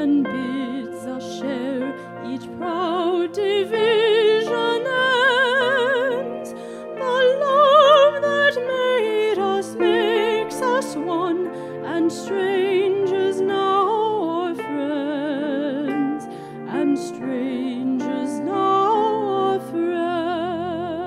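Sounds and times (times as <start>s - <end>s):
solo voice singing with vibrato: 0.0s - 21.0s
sustained accompaniment: 0.0s - 21.0s.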